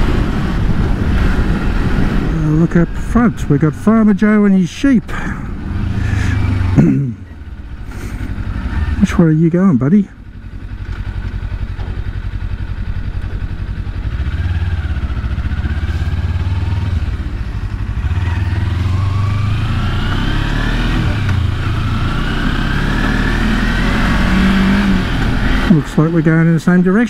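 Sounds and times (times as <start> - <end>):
motorcycle engine accelerating: 5.1 - 26.8.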